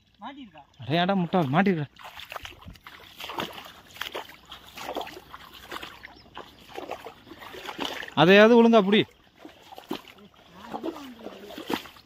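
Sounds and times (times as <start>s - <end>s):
wading through water: 0.0s - 12.0s.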